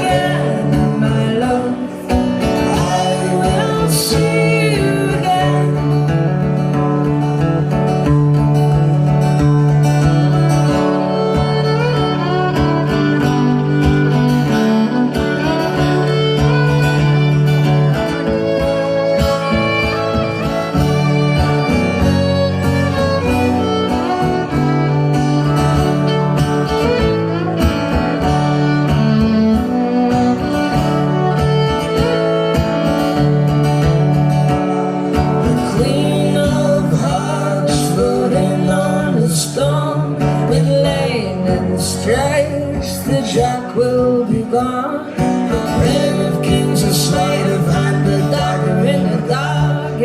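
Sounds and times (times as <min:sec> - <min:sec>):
live folk band playing: 0:00.0 - 0:50.0.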